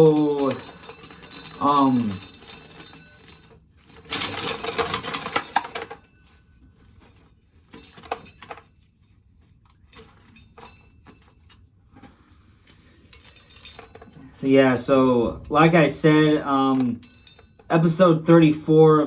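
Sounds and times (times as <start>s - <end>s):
corn kernels clattering: 0.0s - 18.5s.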